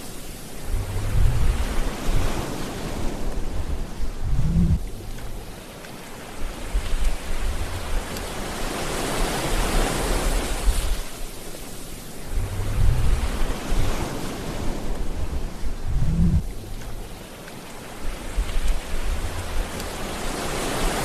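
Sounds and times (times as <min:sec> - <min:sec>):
surf hissing: 0:00.0 - 0:21.0
waves breaking with low rumbles: 0:00.0 - 0:21.0.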